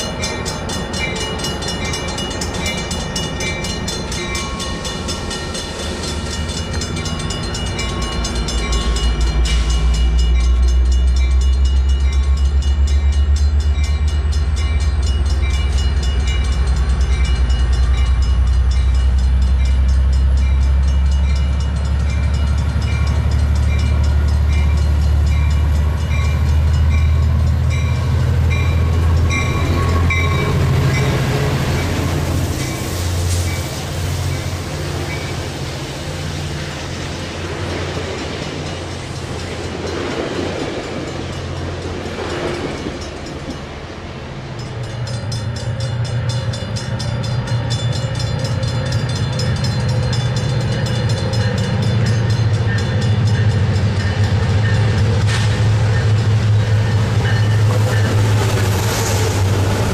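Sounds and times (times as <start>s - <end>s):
crossing warning bell dinging: 0.0s - 59.9s
diesel train rumbling: 0.0s - 59.9s.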